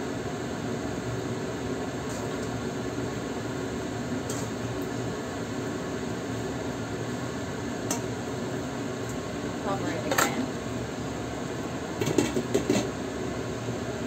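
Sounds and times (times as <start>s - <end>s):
greens stir-frying in a wok: 0.0s - 14.0s.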